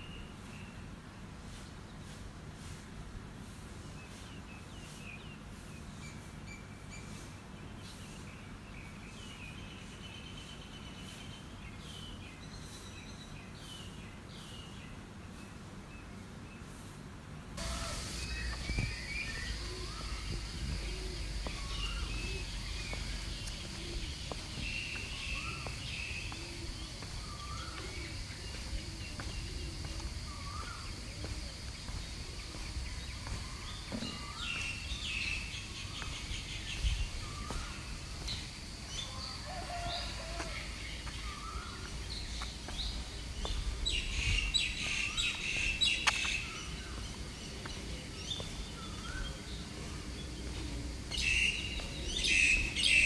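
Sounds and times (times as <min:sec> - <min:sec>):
birds chirping and twittering: 0:03.4 - 0:16.8, 0:17.6 - 0:53.0.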